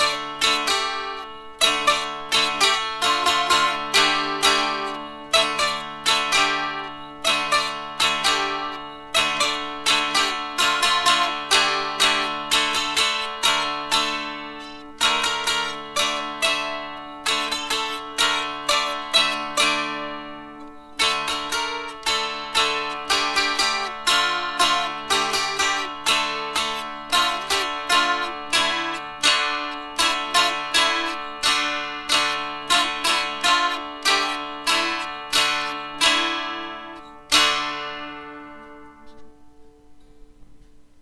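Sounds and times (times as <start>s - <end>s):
dulcimer strummed melody: 0.0s - 41.0s.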